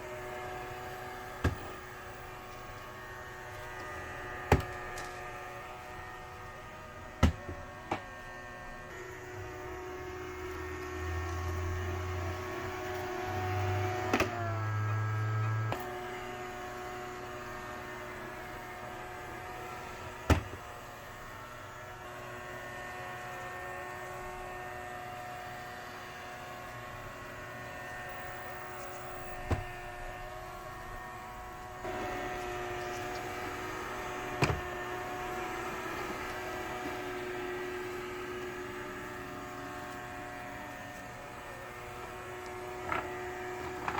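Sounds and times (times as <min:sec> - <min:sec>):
robot vacuum motor whine: 0:00.0 - 0:43.9.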